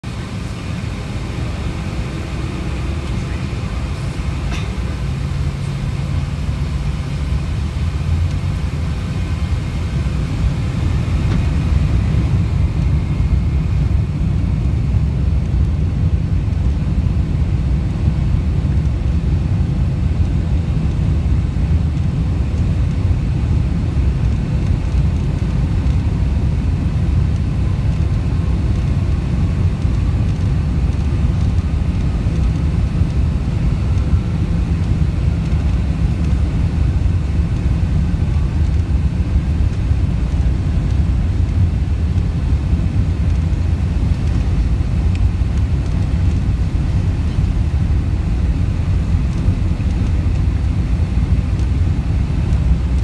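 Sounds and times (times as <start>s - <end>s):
faint steady whine: 0.0s - 53.0s
jet engines low rumble: 0.0s - 53.0s.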